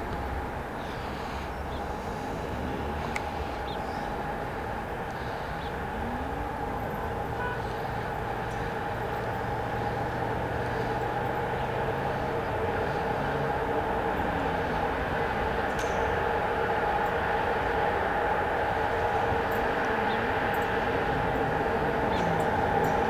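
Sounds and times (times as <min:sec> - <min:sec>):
electric locomotive hum: 0:00.0 - 0:23.0
train running noise: 0:00.0 - 0:23.0.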